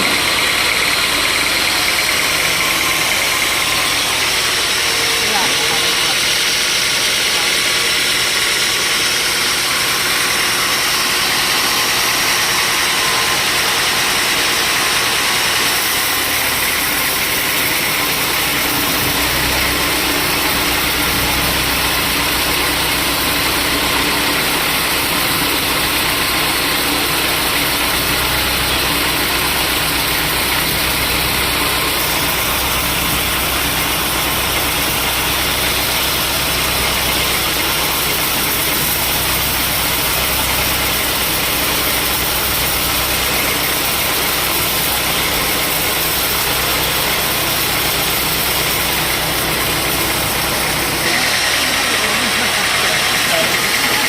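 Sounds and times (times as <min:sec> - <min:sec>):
deep machine hum: 0:00.0 - 0:54.0
sawmill machinery hissing: 0:00.0 - 0:54.0.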